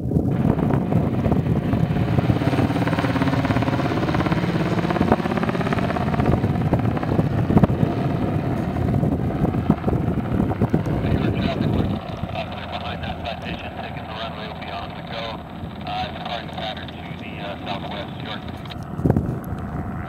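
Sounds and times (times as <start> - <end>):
jet engine roar and whine: 0.0 - 20.0.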